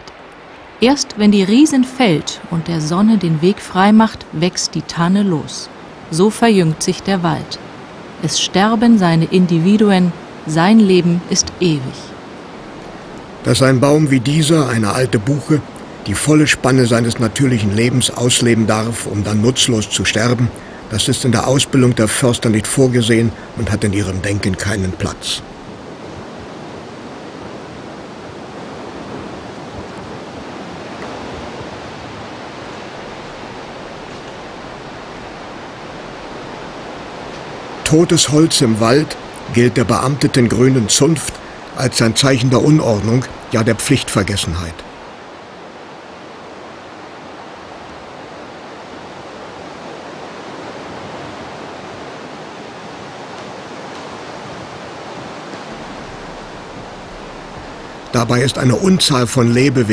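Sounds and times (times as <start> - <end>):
steady rushing noise: 5.2 - 59.9.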